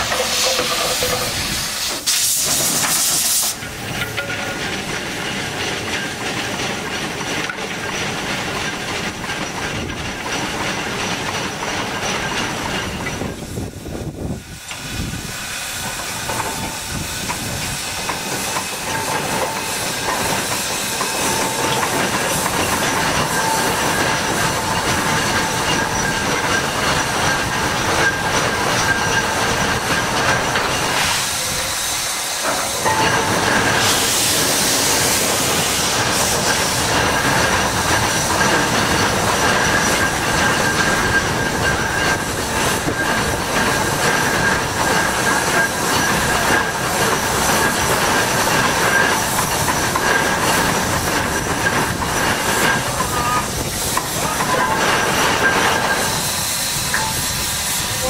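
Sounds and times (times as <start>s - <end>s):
steam engine mechanical clatter: 0.0s - 58.0s
steam hissing: 0.0s - 58.0s.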